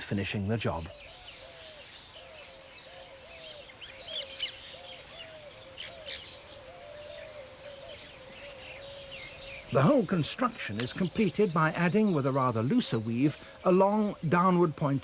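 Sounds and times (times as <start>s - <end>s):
birds chirping in high bursts: 0.0s - 15.0s.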